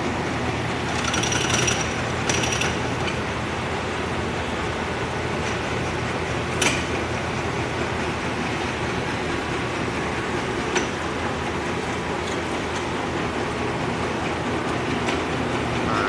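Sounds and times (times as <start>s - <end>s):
lathe running with rumble and whir: 0.0s - 16.0s.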